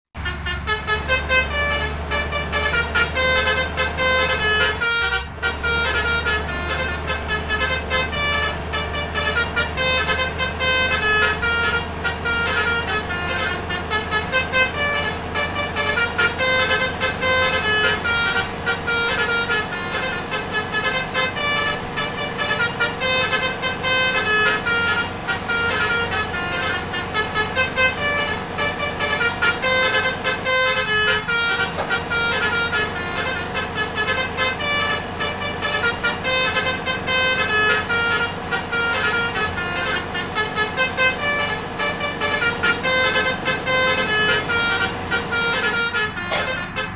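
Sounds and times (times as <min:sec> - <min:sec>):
musical air horn melody: 0:00.2 - 0:46.9.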